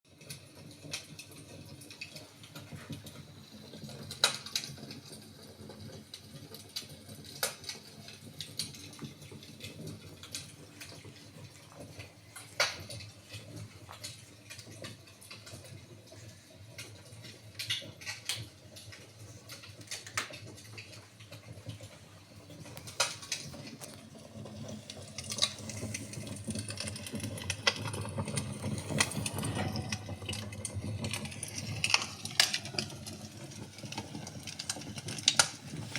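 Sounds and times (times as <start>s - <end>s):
wood fire crackling and popping: 0.1s - 35.9s
low rumble of burning: 0.2s - 35.9s.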